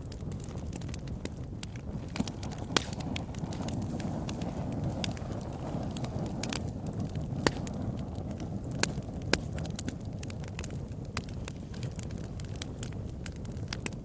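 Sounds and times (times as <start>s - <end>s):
fire burning in fireplace: 0.0s - 14.0s
fire crackles and pops: 0.0s - 14.0s.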